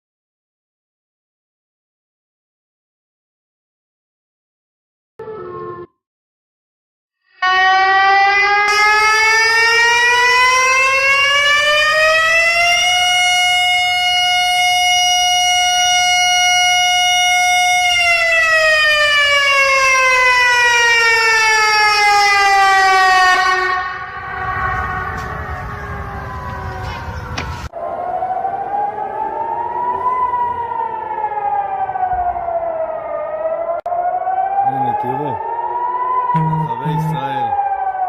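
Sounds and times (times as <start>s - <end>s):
warning siren wailing: 5.2s - 5.9s, 7.3s - 38.0s.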